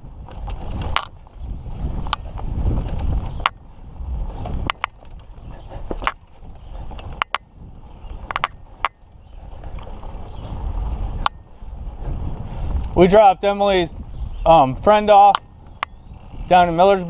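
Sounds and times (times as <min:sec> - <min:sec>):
bike clicks and rattles: 0:00.0 - 0:17.0
bike tyres rumbling on dirt: 0:00.0 - 0:17.0
wind: 0:00.0 - 0:17.0.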